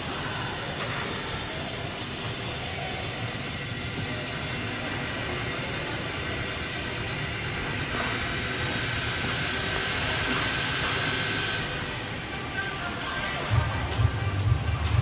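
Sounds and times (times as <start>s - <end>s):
ice rink rumble and hiss: 0.0s - 15.0s.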